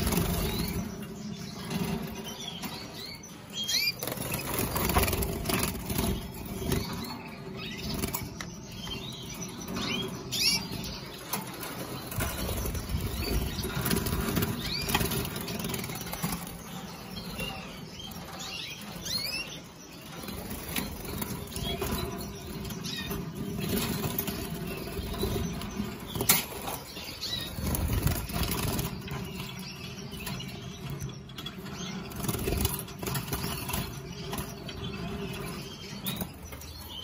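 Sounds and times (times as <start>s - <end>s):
canaries chirping: 0.0s - 37.0s.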